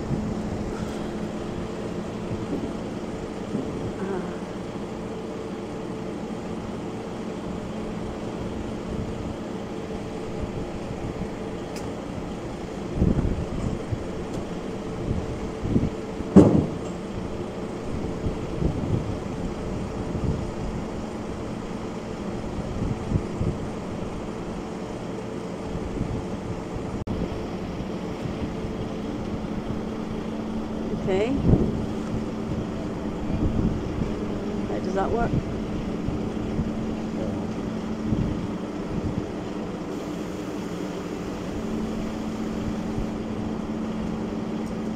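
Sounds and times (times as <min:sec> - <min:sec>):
large engine humming: 0:00.0 - 0:44.9.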